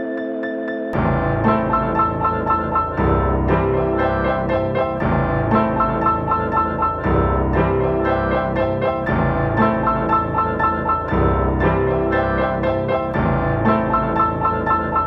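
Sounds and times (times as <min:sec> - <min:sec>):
keyboard instrumental music: 0:00.0 - 0:15.0.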